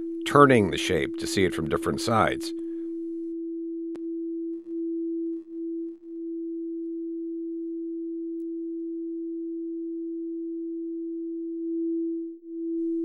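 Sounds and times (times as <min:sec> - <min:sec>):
pure sine-wave tone: 0:00.0 - 0:13.0.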